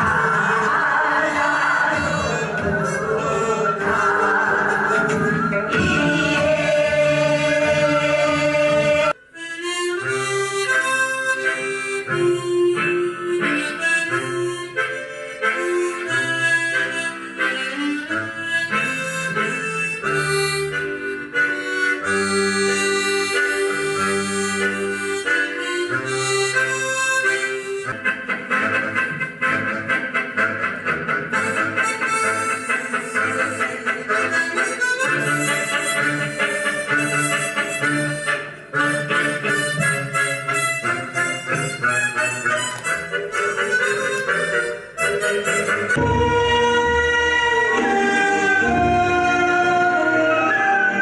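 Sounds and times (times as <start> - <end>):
instrumental music: 0.0 - 51.0.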